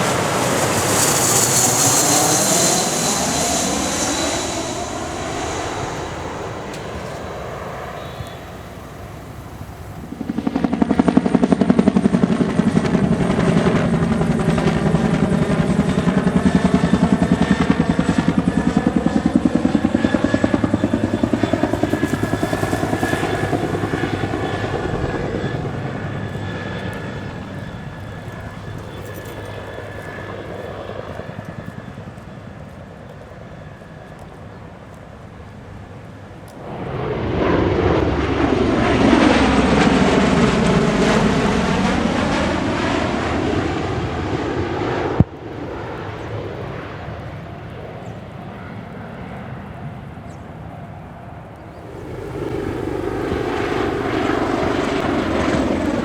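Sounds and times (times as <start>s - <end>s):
helicopter rotor and turbines: 0.0s - 56.0s
tiltrotor aircraft passing loudly: 0.0s - 56.0s.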